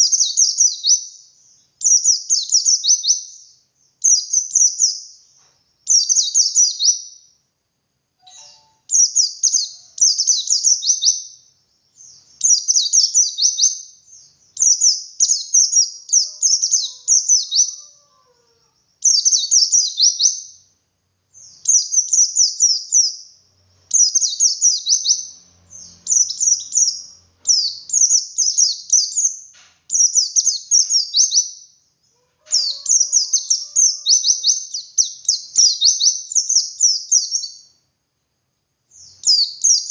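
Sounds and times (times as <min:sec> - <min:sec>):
bird twittering song: 0:00.0 - 0:07.4, 0:08.2 - 0:37.8, 0:38.9 - 0:39.9.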